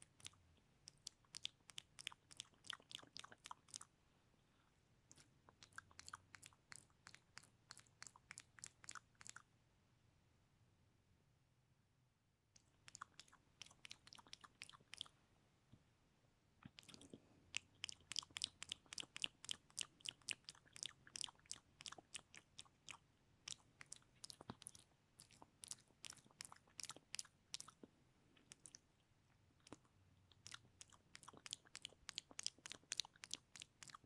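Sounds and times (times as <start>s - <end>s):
wet mouth clicks and smacks: 0.0s - 3.9s, 5.1s - 9.4s, 12.6s - 15.1s, 16.6s - 34.0s.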